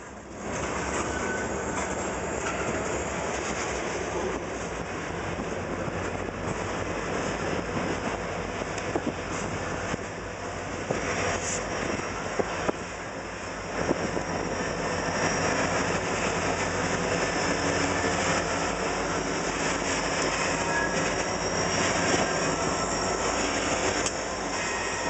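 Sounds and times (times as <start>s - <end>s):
diesel locomotives rolling past: 0.0s - 25.0s.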